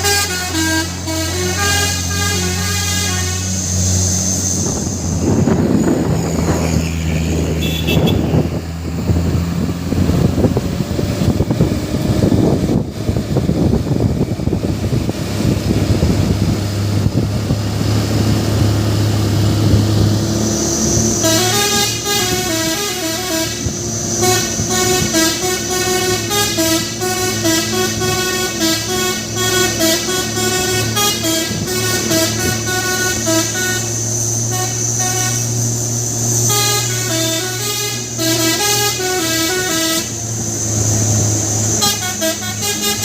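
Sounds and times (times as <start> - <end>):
musical truck horn tune: 0.0 - 12.6, 15.3 - 43.0
road noise: 0.0 - 43.0
truck engine running: 0.0 - 43.0.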